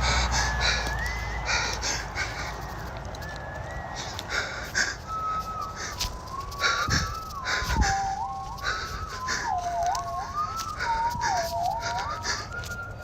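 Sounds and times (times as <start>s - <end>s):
rustling noise: 0.0s - 13.0s
thin gliding whistle: 0.0s - 13.0s.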